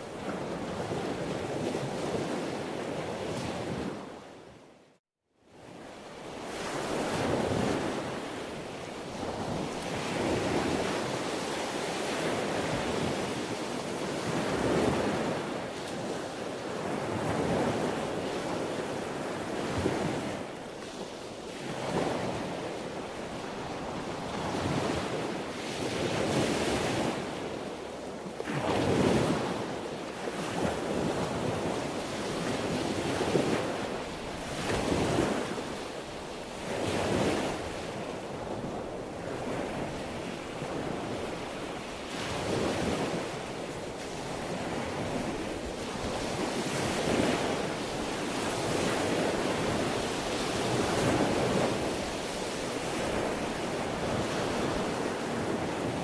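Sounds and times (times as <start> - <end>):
sea waves breaking on shore: 0.0 - 4.6, 5.6 - 56.0.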